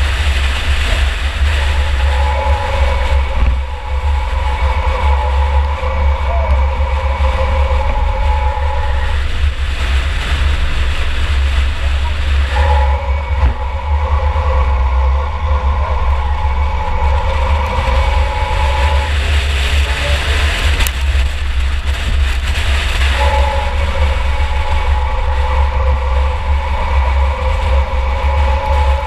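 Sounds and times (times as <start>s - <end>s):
engine and drivetrain rumble: 0.0s - 29.0s
steady two-note tone: 0.0s - 29.0s
wind buffeting camera: 0.0s - 29.0s.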